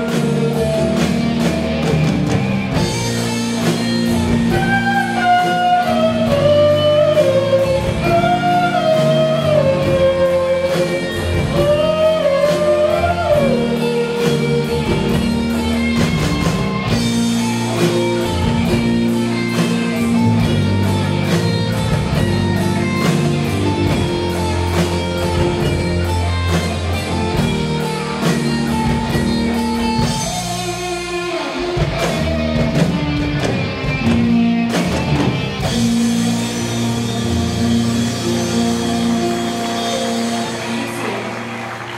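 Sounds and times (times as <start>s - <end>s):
electric guitar lead with bends: 0.0s - 41.9s
rock band playing live: 0.0s - 41.9s.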